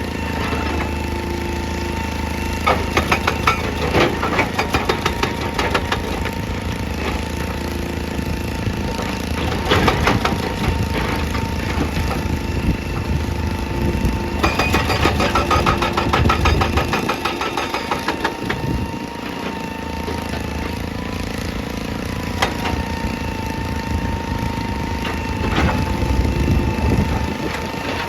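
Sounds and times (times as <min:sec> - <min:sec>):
diesel engine running with whine: 0:00.0 - 0:28.0.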